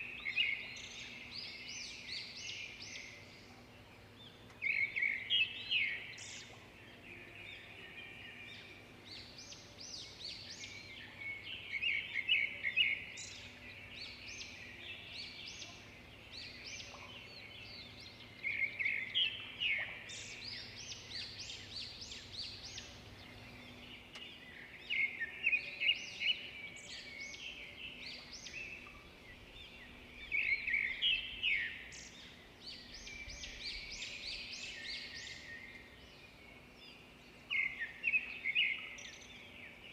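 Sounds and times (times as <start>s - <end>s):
loud bird song phrase: 0.0s - 39.9s
songbirds singing: 0.0s - 39.9s.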